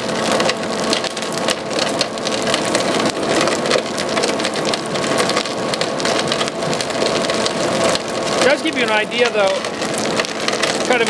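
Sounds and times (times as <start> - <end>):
nut shells crackling in press: 0.0 - 11.0.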